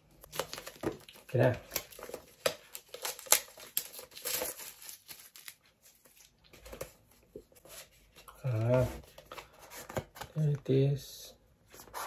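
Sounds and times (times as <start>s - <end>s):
cardboard box crinkling and rustling: 0.3s - 10.3s.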